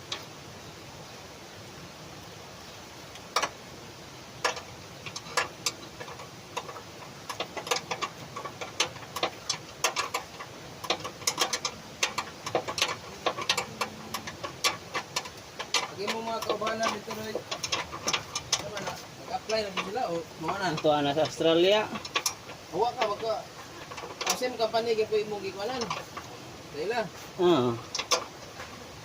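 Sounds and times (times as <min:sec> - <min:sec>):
hand tools clicking on metal: 0:04.4 - 0:28.9.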